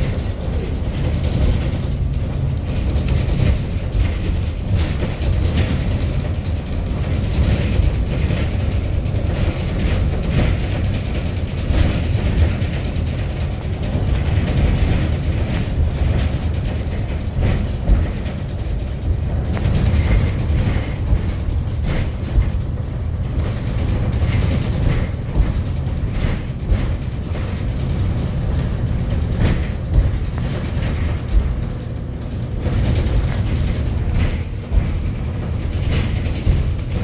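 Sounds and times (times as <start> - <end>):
car road and wind rumble: 0.0 - 37.0.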